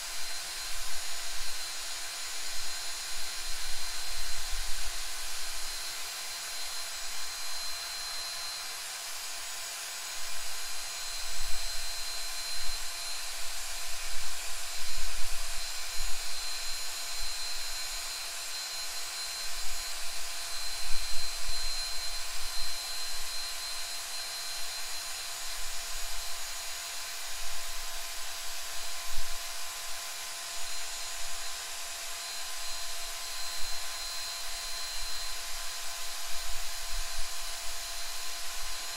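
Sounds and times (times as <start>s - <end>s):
cordless drill motor whine: 0.0s - 38.9s.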